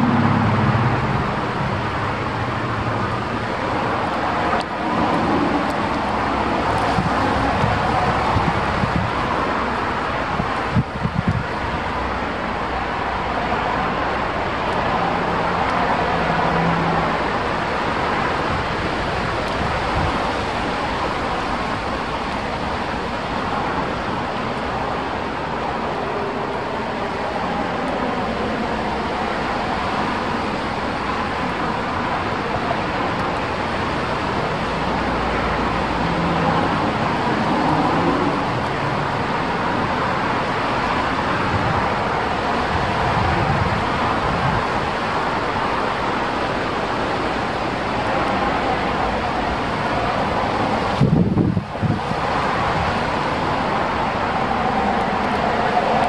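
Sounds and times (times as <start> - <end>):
strong wind rushing: 0.0 - 56.0.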